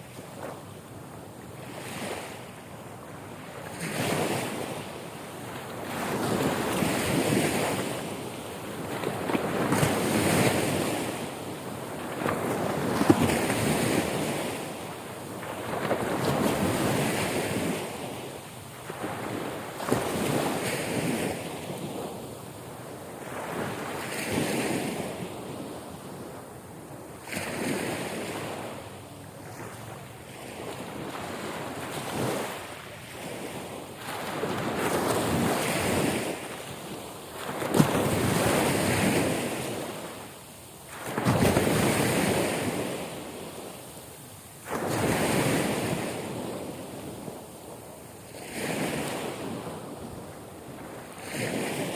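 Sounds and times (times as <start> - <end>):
ocean waves breaking: 1.5 - 51.9.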